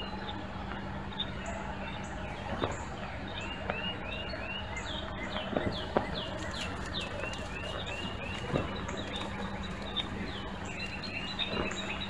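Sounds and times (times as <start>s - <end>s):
steady low hum: 0.0s - 12.0s
songbird chirping: 1.3s - 12.0s.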